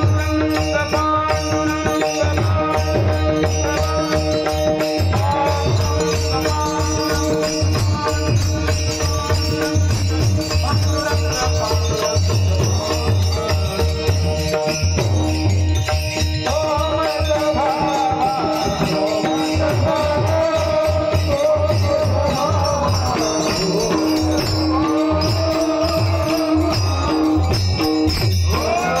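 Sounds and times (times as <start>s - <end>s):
drum beat: 0.0s - 29.0s
jingling rattle percussion: 0.0s - 29.0s
person singing devotional song: 0.0s - 29.0s.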